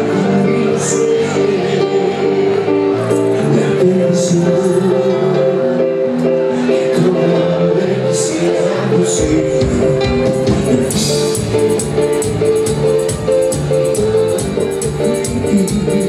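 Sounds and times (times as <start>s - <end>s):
live band instrumental: 0.0s - 16.0s.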